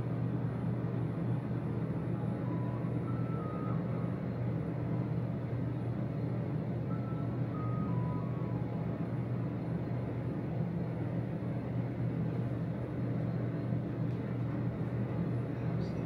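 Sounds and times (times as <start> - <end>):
elevator hum and rumble: 0.0 - 16.0.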